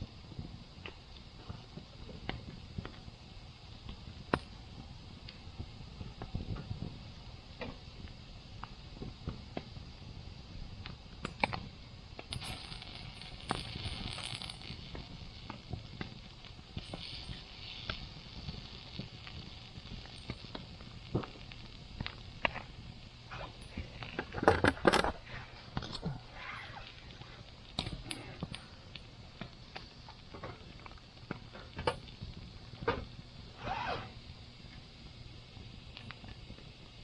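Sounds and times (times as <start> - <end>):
campfire crackling and popping: 0.0 - 37.0
fire hissing: 0.0 - 37.0.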